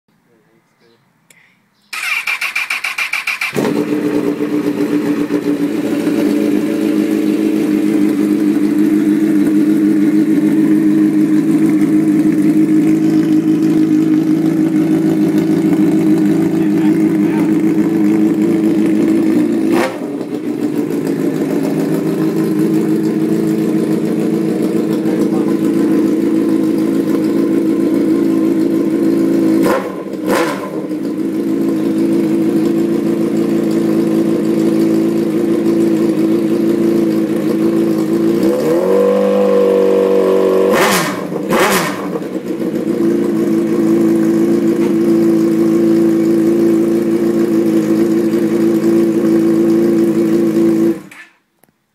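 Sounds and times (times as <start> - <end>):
engine throttle blips and revs: 2.0 - 51.2
loud motorcycle engine idling: 3.4 - 38.8, 39.4 - 51.1.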